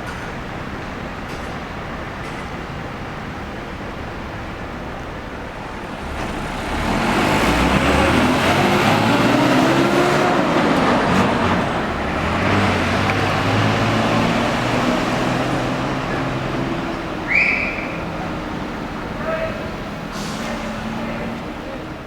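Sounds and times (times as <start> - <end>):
bus diesel engine passing: 0.0 - 22.0
traffic noise: 0.0 - 22.0.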